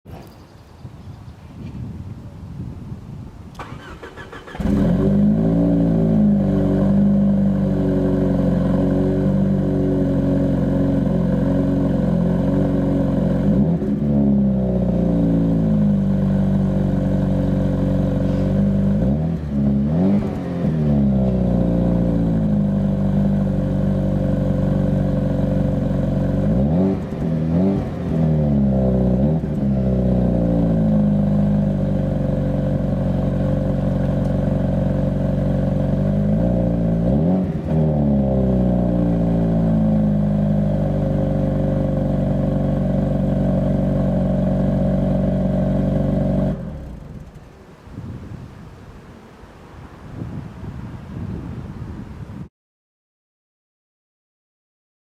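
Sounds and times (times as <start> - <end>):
engine throttle blips: 3.5 - 47.7
car engine idling: 3.6 - 47.7.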